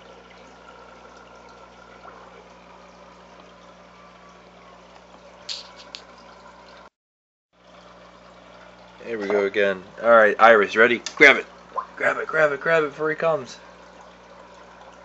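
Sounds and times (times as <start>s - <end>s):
aquarium filter and pump running: 0.0s - 6.9s, 7.6s - 15.0s.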